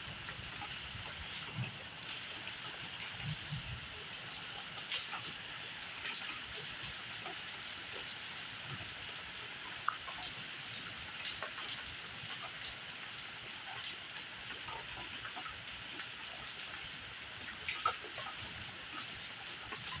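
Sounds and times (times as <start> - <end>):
sharp ticks of raindrops: 0.0 - 20.0
steady rain hiss: 0.0 - 20.0.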